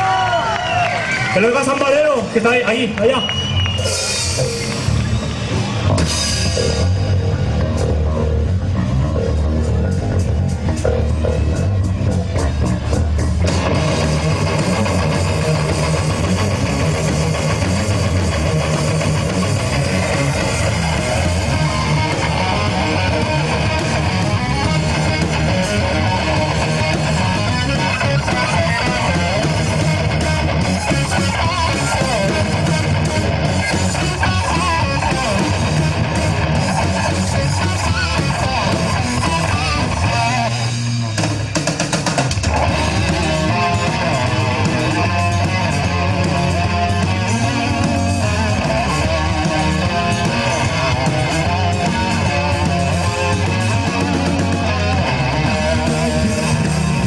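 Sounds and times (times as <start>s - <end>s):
electric guitar: 0.0s - 57.0s
rock band playing live: 0.0s - 57.0s.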